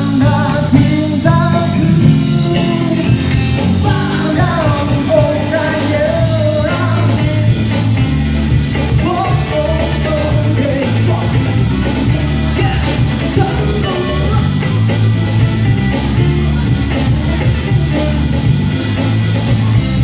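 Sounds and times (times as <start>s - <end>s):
live band playing pop-rock: 0.0s - 20.0s.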